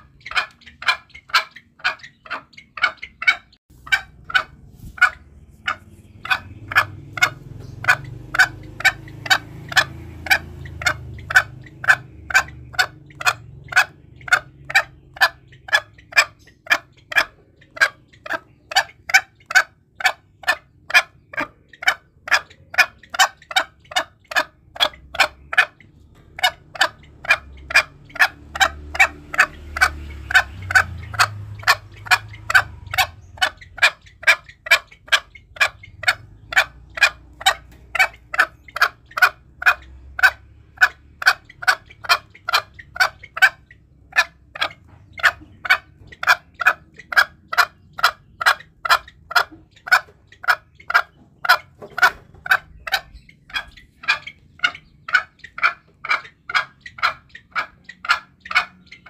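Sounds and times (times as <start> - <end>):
junglefowl clucking calls: 0.0 - 59.0.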